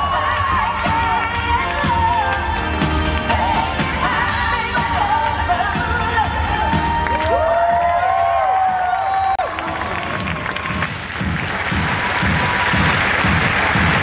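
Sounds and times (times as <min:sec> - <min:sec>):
pop song over sound system: 0:00.0 - 0:14.0.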